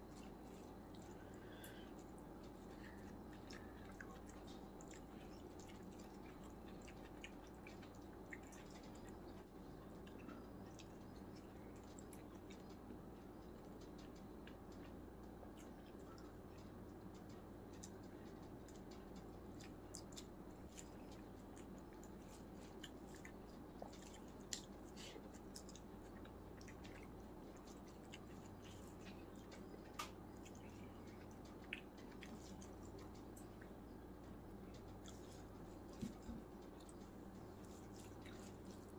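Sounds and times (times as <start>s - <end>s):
person chewing food: 0.0s - 38.9s
steady low hum: 0.0s - 38.9s.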